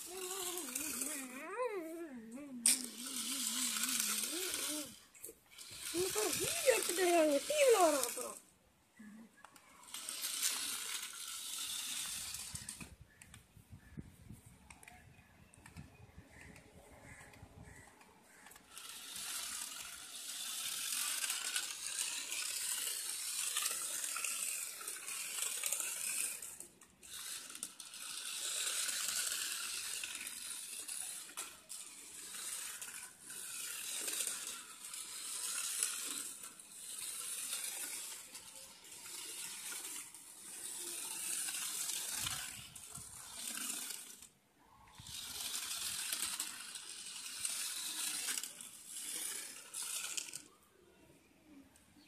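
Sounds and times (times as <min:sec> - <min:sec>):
toy car motor whirring: 0:00.0 - 0:14.0, 0:14.7 - 0:51.8.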